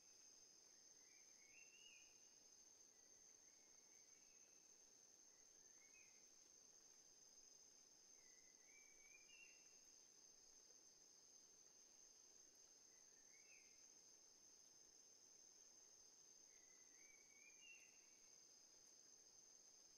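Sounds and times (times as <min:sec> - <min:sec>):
faint insect drone: 0:00.0 - 0:19.9.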